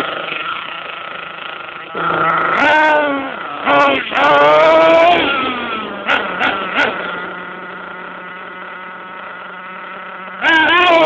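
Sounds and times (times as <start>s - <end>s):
toy car motor revving: 0.0s - 11.0s.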